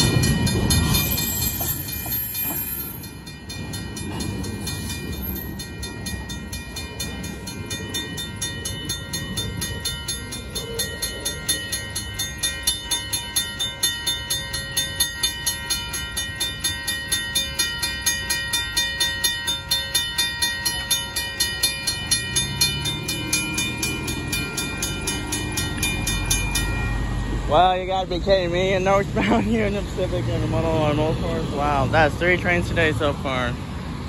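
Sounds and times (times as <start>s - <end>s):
crossing bell ringing: 0.0s - 33.6s
freight train rumble: 0.0s - 34.0s.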